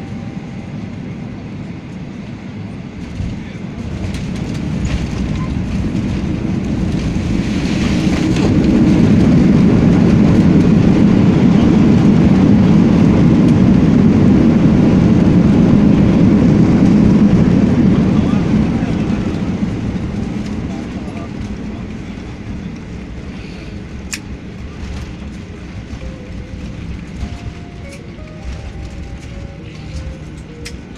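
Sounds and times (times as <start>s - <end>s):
airliner engine and runway rumble: 0.0s - 30.9s.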